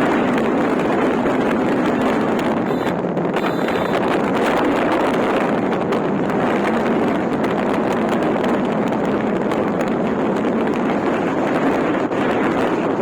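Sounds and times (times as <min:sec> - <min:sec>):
engine and tyre noise: 0:00.0 - 0:13.0
wind buffeting microphone: 0:00.0 - 0:13.0.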